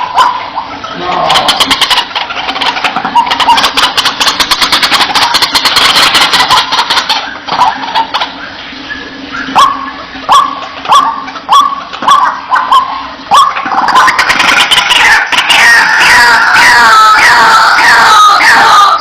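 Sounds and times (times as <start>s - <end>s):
waterhen calling: 0.0s - 19.0s.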